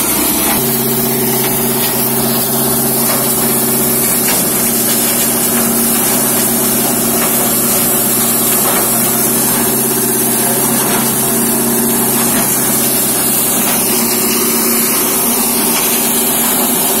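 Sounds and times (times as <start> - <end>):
crushing machine running: 0.0 - 17.0
loud even hiss: 0.0 - 17.0
machine hum: 0.0 - 17.0.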